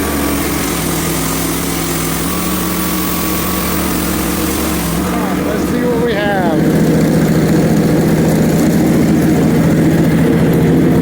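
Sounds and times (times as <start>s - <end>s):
band saw blade cutting log: 0.0s - 11.0s
small gas engine running: 0.0s - 11.0s.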